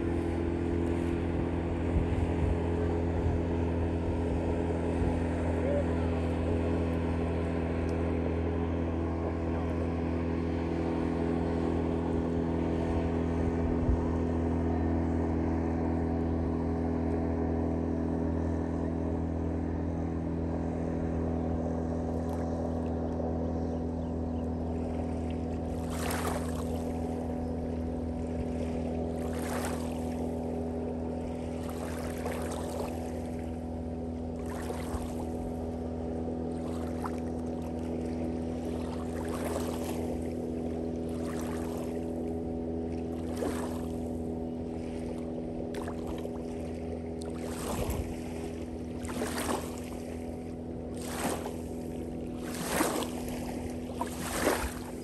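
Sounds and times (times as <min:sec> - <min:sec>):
outboard motor running: 0:00.0 - 0:55.0
water splashes: 0:00.0 - 0:55.0.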